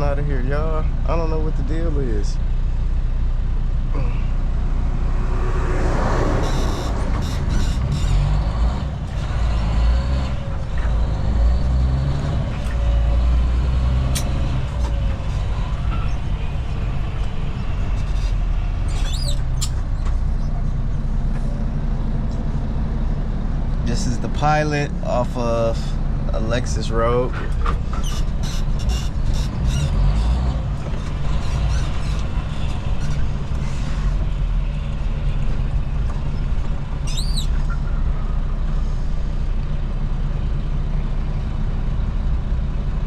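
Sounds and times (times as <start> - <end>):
diesel truck engine rumbling: 0.0 - 43.0.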